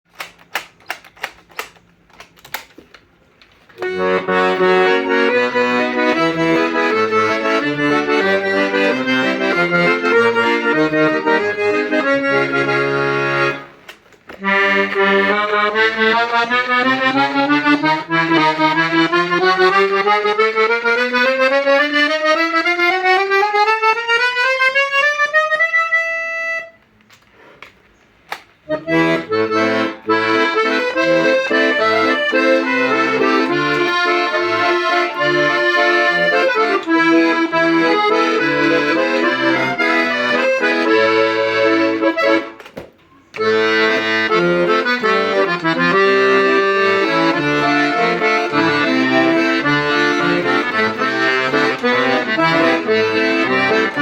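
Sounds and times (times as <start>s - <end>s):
accordion playing: 3.6s - 27.7s, 28.3s - 54.0s.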